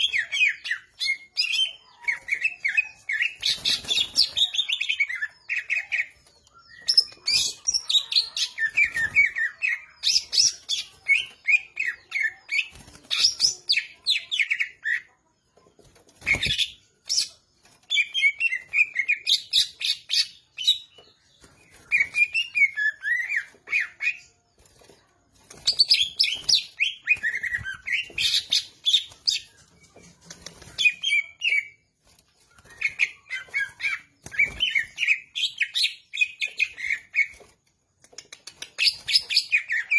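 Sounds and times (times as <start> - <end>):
bird singing rapid chirps: 0.0 - 15.2, 16.1 - 37.6.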